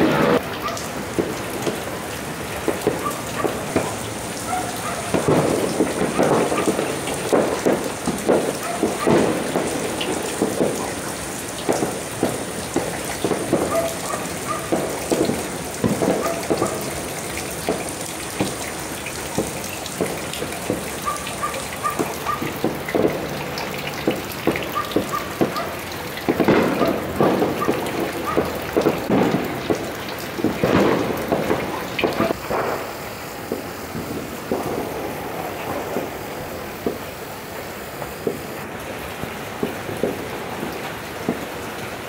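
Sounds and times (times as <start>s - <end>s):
fireworks popping and banging: 0.0s - 42.0s
rain falling: 0.0s - 42.0s.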